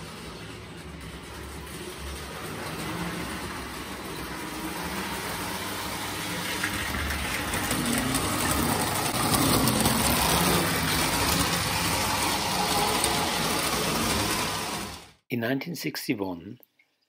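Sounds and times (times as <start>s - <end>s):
toy train rumble and clatter: 0.0s - 15.2s.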